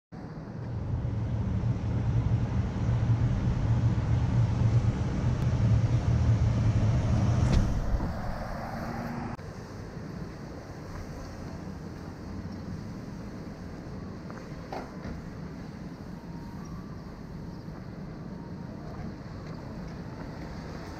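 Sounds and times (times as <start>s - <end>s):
street noise: 0.1s - 20.9s
vehicle engine humming: 0.2s - 20.9s.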